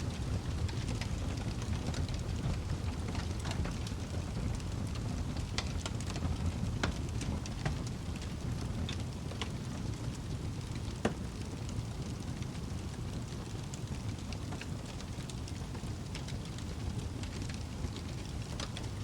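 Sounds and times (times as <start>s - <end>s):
burning logs crackling and popping: 0.0s - 19.0s
fire flames rumbling: 0.0s - 19.0s.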